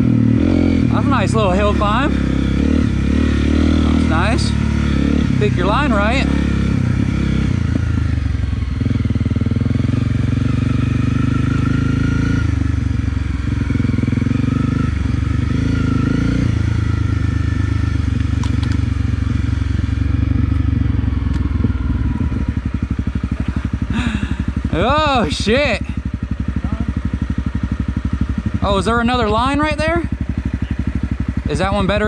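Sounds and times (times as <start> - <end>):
motorcycle engine under load: 0.0 - 32.0.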